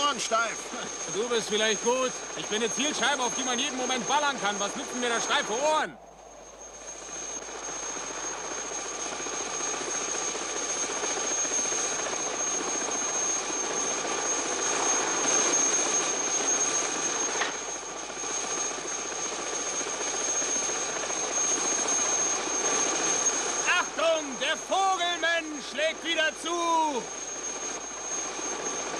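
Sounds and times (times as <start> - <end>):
helicopter rotor drone: 0.0 - 28.9.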